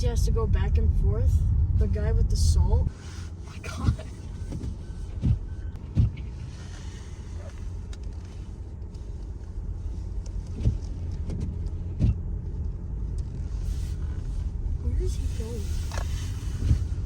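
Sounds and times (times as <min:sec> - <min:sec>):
car cabin rumble: 0:00.0 - 0:17.0.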